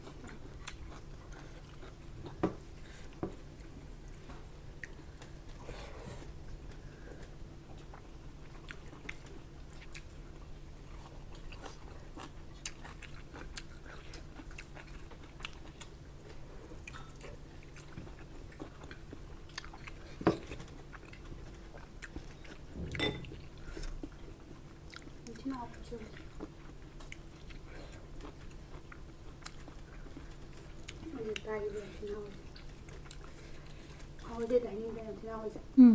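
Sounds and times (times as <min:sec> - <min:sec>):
person chewing food: 0:00.0 - 0:34.4
faint low hum: 0:00.0 - 0:35.9.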